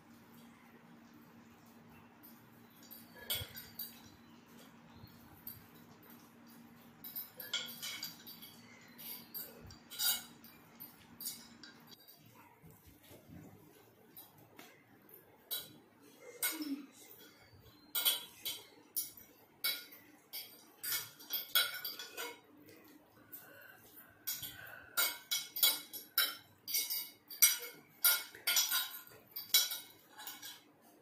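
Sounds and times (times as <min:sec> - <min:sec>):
cutlery clinking on ceramic plates: 0:01.6 - 0:13.2, 0:14.1 - 0:31.0.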